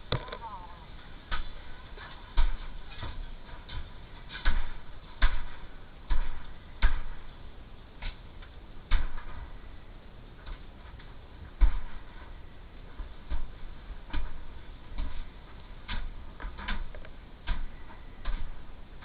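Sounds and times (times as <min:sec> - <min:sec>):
steady background hiss: 0:00.0 - 0:19.0
irregular knocks and thumps: 0:01.2 - 0:07.4, 0:08.0 - 0:09.6, 0:10.4 - 0:19.0.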